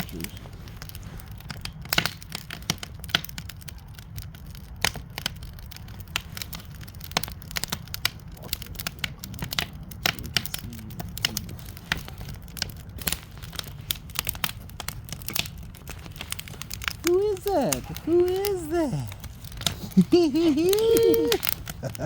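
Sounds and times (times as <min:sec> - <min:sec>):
campfire crackling and popping: 0:00.0 - 0:22.0
low fire rumble: 0:00.0 - 0:22.0.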